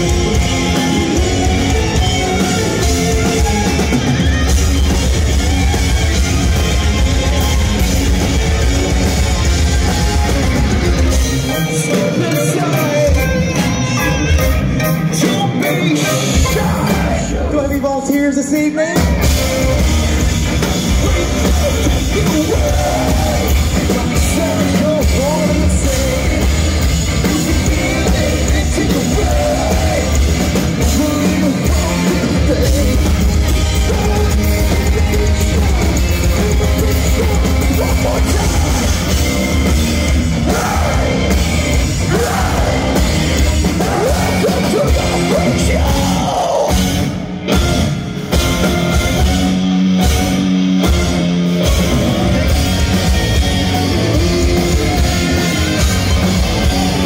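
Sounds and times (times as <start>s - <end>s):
shouted and sung lead vocal: 0.0s - 19.3s, 20.6s - 47.3s, 53.2s - 57.0s
heavy rock band playing: 0.0s - 57.0s.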